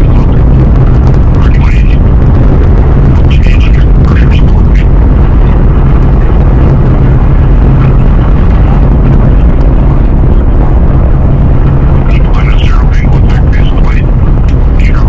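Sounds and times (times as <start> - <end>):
rocket engine deep rumble: 0.0 - 15.0.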